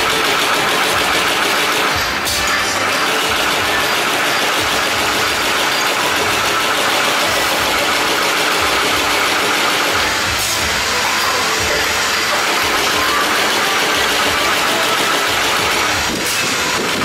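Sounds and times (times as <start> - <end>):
machine fast mechanical clatter: 0.0 - 17.0.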